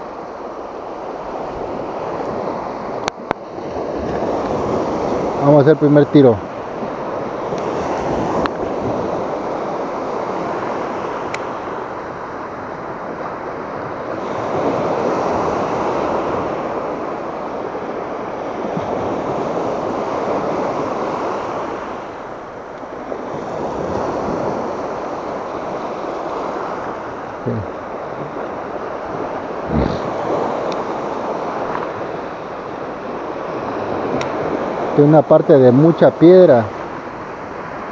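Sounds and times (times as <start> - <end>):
wind on microphone: 0.0 - 35.1
waves breaking on beach: 0.0 - 37.9.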